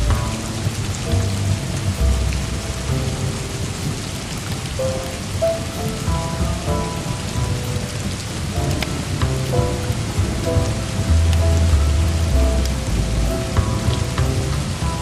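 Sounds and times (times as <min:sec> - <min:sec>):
low rumble of thunder: 0:00.0 - 0:15.0
soft jazz music: 0:00.0 - 0:15.0
steady rain: 0:00.0 - 0:15.0.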